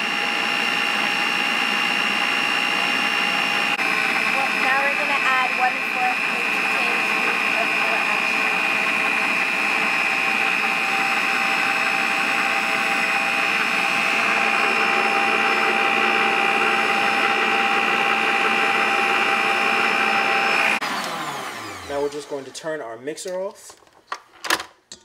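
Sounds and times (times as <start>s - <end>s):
electric mixer motor whine: 0.0s - 22.5s.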